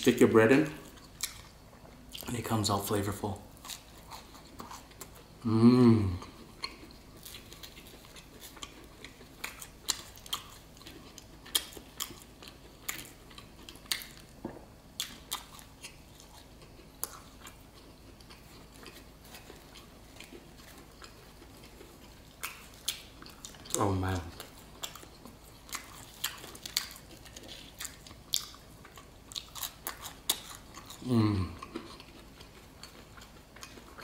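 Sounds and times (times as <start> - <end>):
person chewing food: 0.8 - 2.3, 3.5 - 5.4, 6.0 - 34.0.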